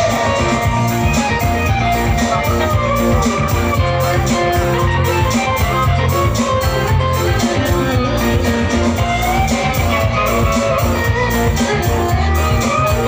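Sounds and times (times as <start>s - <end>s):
electronic keyboard dance music: 0.0s - 13.0s.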